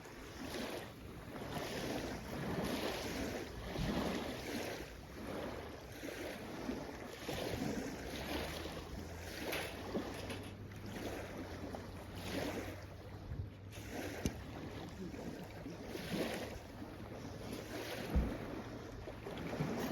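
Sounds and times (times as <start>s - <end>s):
small waves washing on shore: 0.0s - 19.9s
wind buffeting microphone: 0.3s - 19.9s.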